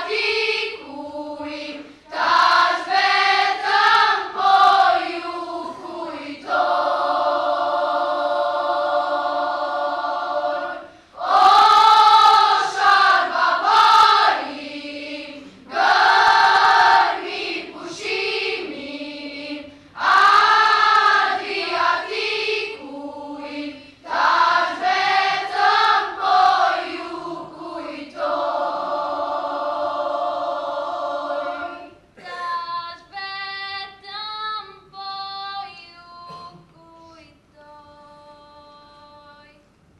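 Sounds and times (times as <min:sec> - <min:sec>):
girls' choir singing: 0:00.0 - 0:32.4.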